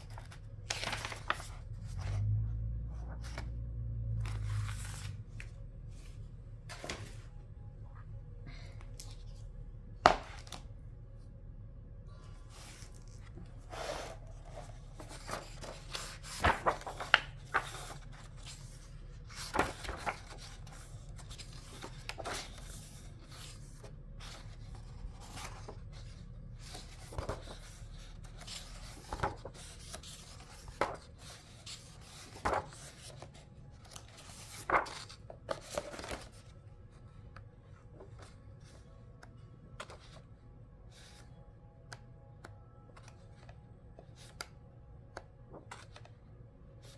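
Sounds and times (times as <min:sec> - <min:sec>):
book pages turning: 0:00.0 - 0:07.4, 0:08.8 - 0:10.8, 0:12.1 - 0:46.9.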